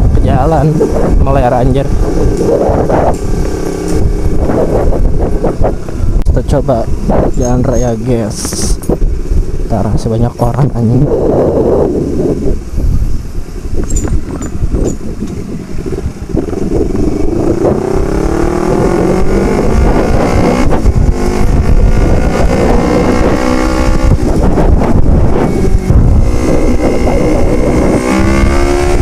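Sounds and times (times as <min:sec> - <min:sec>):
motorcycle engine accelerating: 0:00.0 - 0:29.0
wind buffeting microphone: 0:00.0 - 0:29.0.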